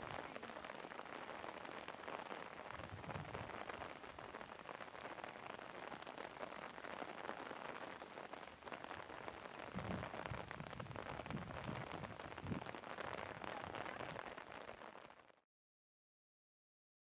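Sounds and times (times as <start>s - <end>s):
rain patter: 0.0s - 15.4s.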